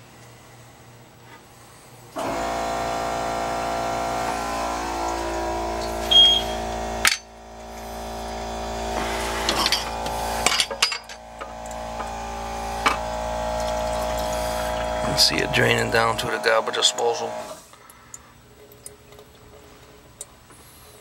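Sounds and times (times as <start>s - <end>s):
dishwasher drain pump humming: 0.0s - 21.0s
water draining through sink: 2.2s - 20.4s.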